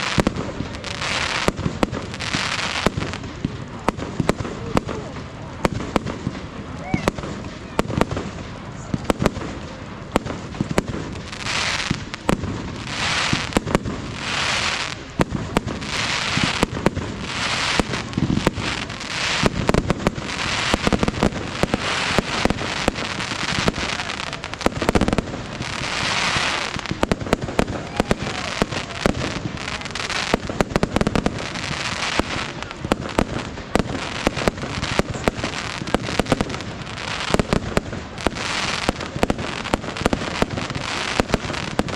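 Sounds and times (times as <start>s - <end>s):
firework bangs and pops: 0.0s - 41.9s
firework hissing crackle: 0.0s - 41.9s.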